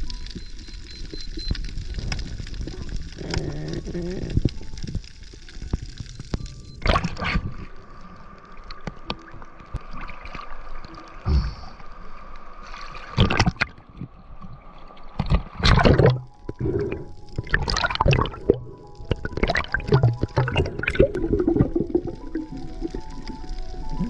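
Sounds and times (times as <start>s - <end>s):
water gurgling and sloshing: 0.0s - 24.0s.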